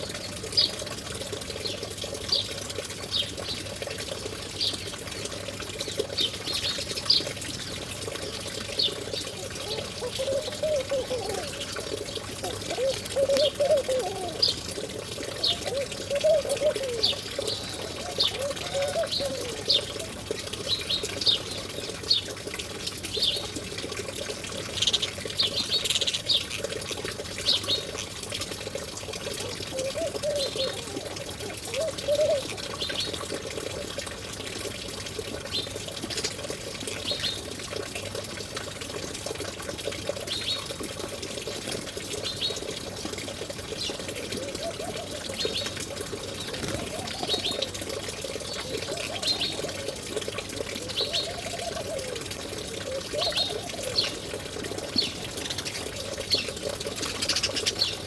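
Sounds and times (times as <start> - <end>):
trickling water: 0.0 - 58.0.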